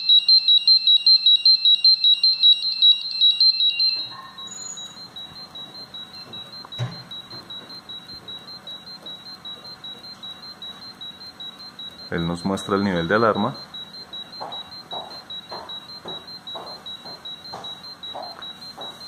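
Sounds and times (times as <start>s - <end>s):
gas detector alarm beeping: 0.0s - 19.0s.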